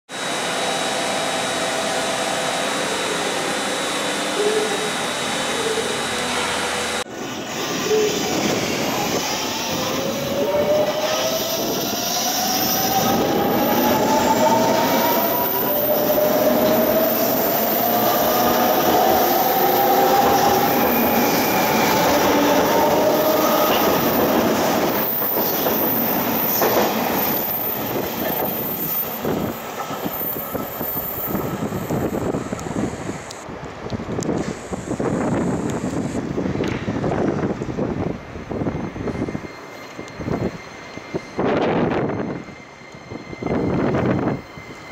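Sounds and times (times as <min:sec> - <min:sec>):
train wheels rumbling on rail: 0:00.2 - 0:44.9.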